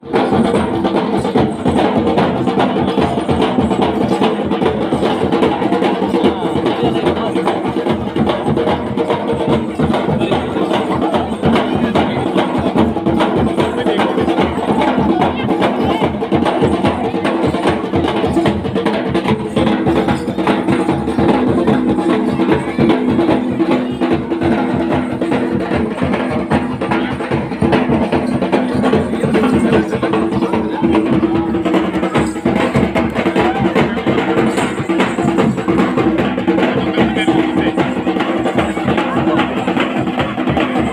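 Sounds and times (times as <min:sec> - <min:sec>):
music with drums and percussion: 0:00.0 - 0:40.9.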